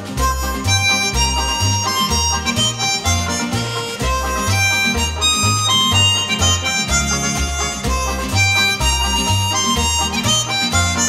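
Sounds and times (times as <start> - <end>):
harmonica-led tune with bass: 0.0 - 11.0.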